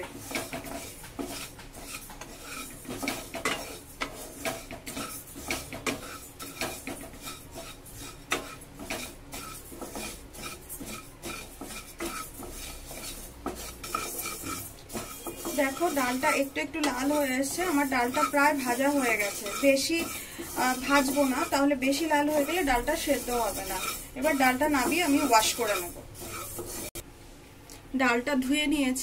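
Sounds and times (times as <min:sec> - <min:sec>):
lentils scraping in a pan: 0:00.0 - 0:27.0.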